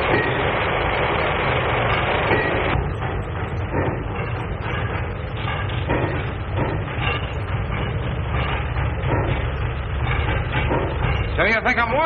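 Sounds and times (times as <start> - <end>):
heavy rhythmic pulses: 0.0 - 12.0
steam locomotive hiss and rumble: 0.0 - 12.0.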